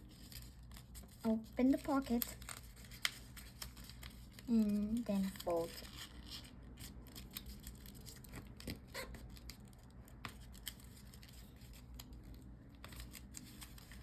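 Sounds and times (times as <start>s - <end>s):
paper rustling and creasing: 0.0s - 14.0s.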